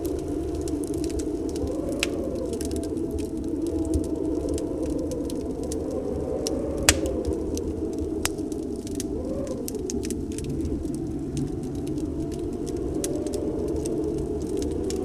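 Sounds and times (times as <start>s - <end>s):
snowstorm wind rushing: 0.0s - 15.0s
wood fire crackling and popping: 0.0s - 15.0s.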